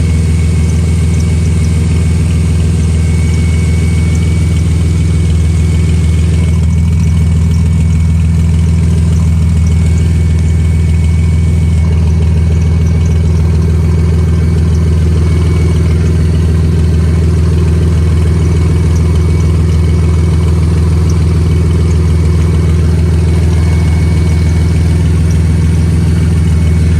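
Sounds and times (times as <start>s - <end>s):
engine idling with exhaust leak: 0.0s - 26.9s.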